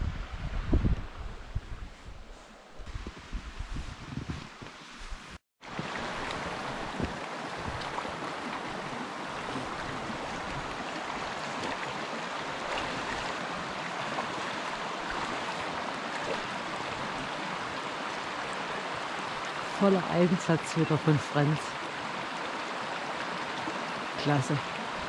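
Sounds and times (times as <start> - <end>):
mountain stream rushing: 4.5 - 25.0.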